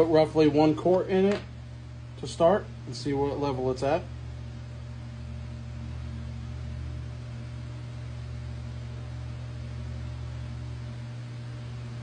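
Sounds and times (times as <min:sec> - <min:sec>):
steady low hum and hiss: 0:00.0 - 0:12.0.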